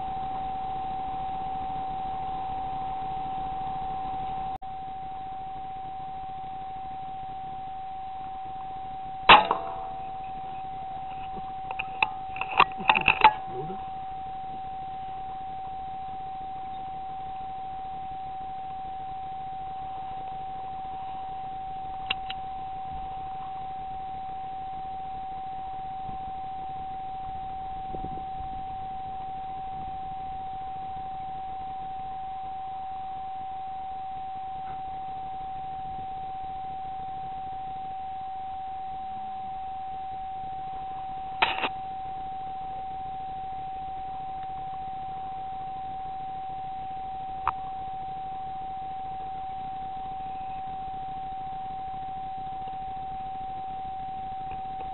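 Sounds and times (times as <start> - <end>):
steady electronic whine: 0.0 - 54.9.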